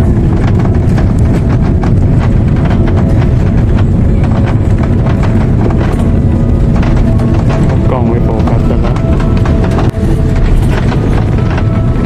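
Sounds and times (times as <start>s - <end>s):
airframe knocks and rattles: 0.0s - 12.0s
low rumble of wheels and engines: 0.0s - 12.0s.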